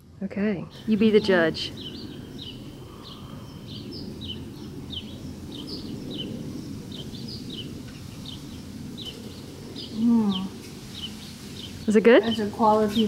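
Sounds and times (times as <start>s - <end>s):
low steady rumble: 0.0s - 13.0s
small songbird chirping: 0.6s - 13.0s.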